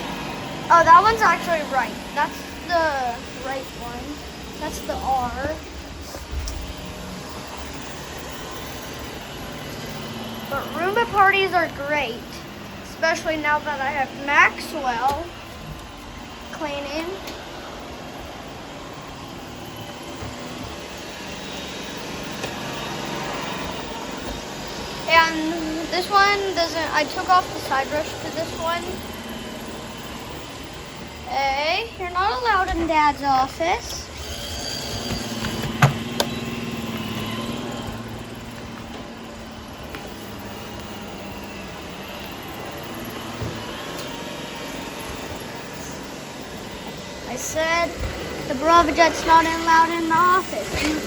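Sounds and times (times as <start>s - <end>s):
robot vacuum whirring hum: 0.0s - 51.0s.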